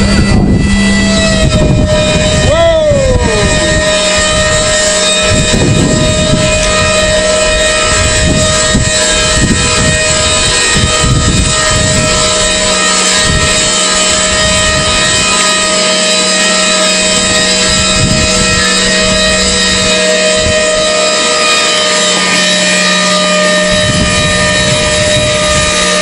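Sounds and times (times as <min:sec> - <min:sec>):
wind buffeting microphone: 0:00.0 - 0:15.9, 0:16.5 - 0:26.0
machine whine: 0:00.0 - 0:26.0.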